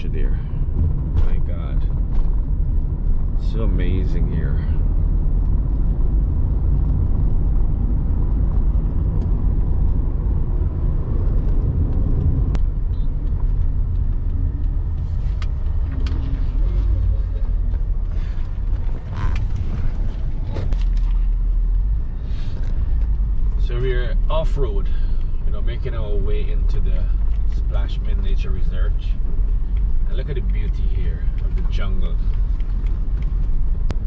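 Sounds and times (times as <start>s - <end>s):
car driving off-road: 0.0s - 34.0s.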